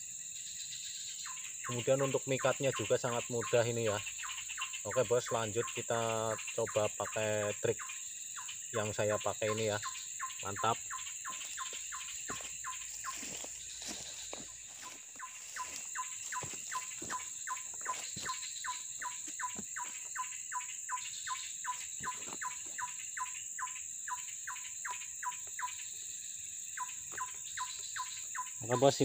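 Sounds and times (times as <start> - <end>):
bird chirping: 0.0 - 29.0
insects droning: 0.0 - 29.0.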